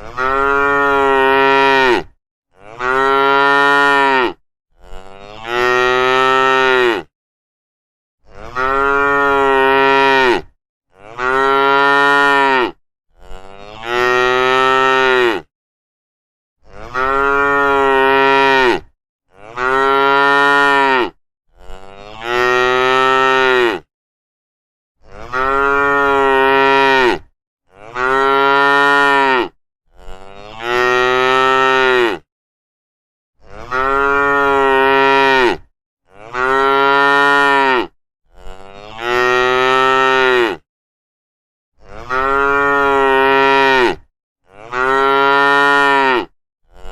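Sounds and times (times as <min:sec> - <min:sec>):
cattle mooing: 0:00.0 - 0:07.1, 0:08.4 - 0:15.5, 0:16.7 - 0:23.9, 0:25.1 - 0:32.2, 0:33.6 - 0:40.6, 0:41.8 - 0:46.9.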